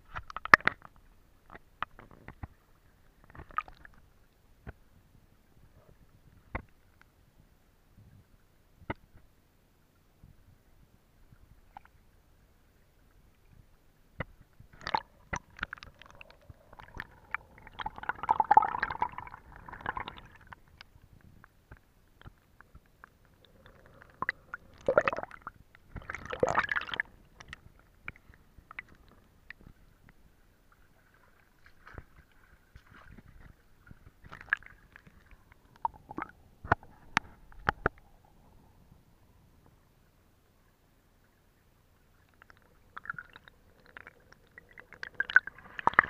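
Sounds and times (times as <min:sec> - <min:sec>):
water gurgling and sloshing: 0:00.0 - 0:46.0.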